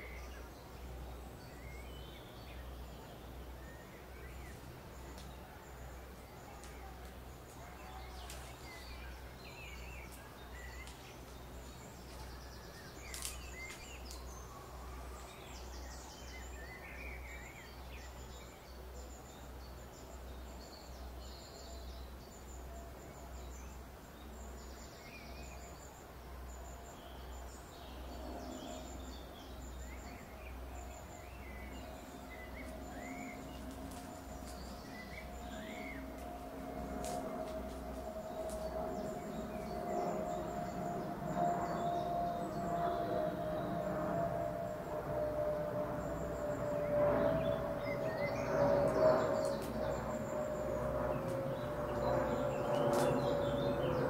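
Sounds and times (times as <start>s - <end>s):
birds chirping: 0.0s - 54.0s
low pulsing hum: 0.0s - 54.0s.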